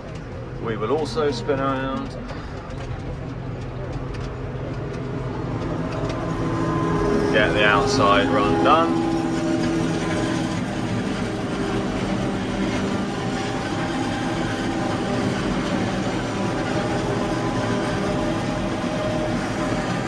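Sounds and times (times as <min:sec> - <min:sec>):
engine hum: 0:00.0 - 0:20.0
forage harvester machine drone: 0:00.0 - 0:20.0.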